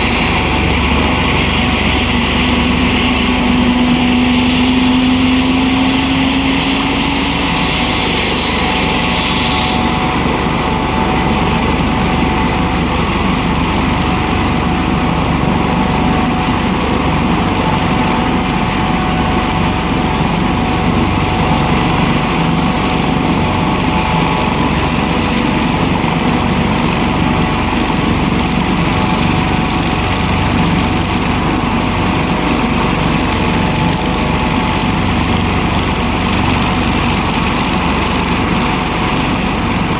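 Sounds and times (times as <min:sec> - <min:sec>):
thin high whine: 0:00.0 - 0:39.9
turbine engine running: 0:00.0 - 0:39.9.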